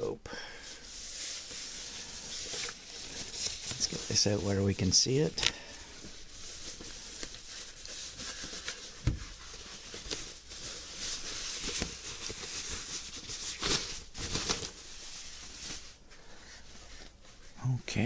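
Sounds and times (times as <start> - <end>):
plastic wrapping crinkling: 0.8 - 17.6.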